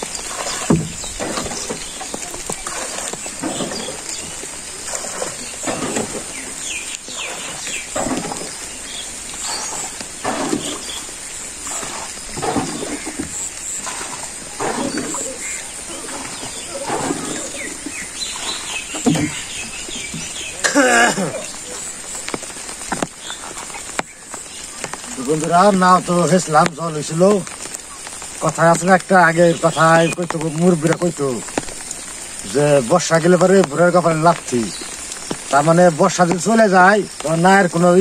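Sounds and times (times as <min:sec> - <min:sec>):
water splashing from bailing: 0:00.0 - 0:38.0.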